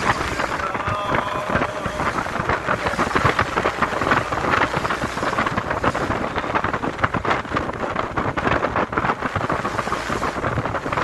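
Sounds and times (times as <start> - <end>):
moving vehicle noise: 0.0 - 11.0
wind buffeting microphone: 0.0 - 11.0.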